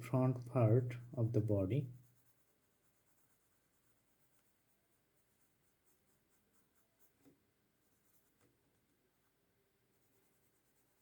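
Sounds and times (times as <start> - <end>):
pencil scratching on paper: 0.0 - 8.4, 9.9 - 11.0.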